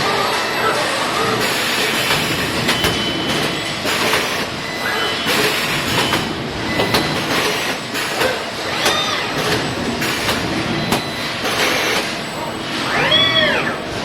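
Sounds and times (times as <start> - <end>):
welding robot machine noise: 0.0 - 14.0.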